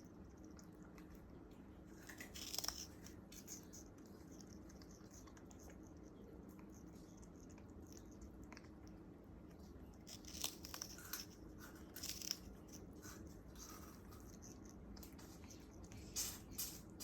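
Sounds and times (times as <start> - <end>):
parrot crunching sugarcane: 0.1 - 17.0.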